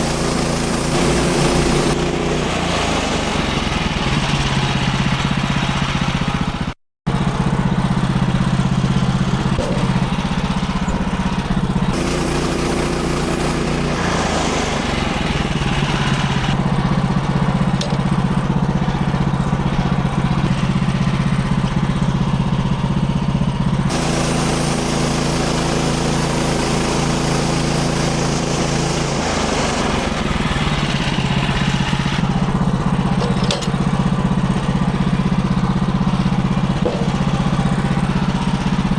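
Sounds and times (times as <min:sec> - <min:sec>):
sawmill engine sawing log: 0:00.0 - 0:38.9.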